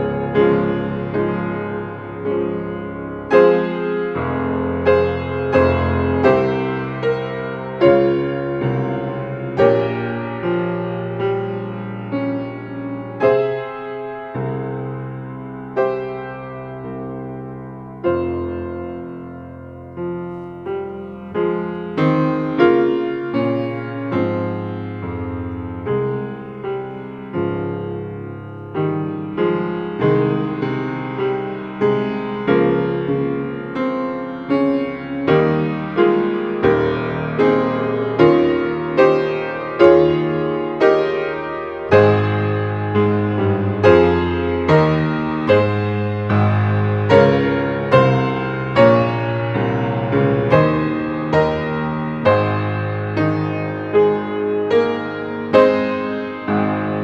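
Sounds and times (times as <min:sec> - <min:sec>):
slow solo piano: 0:00.0 - 0:57.0.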